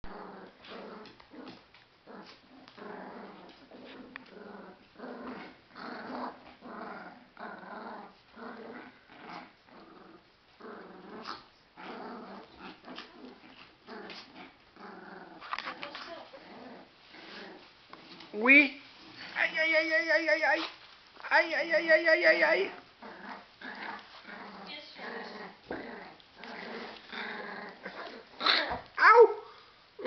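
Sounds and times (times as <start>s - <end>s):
puppies growling: 0.0s - 18.3s, 22.6s - 29.7s.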